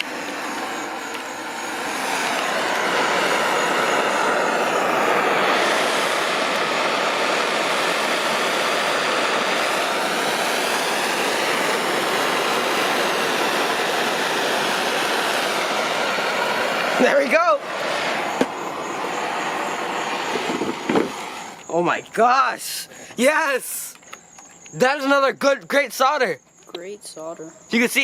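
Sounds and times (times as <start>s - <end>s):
torch flame hissing: 0.0s - 26.4s.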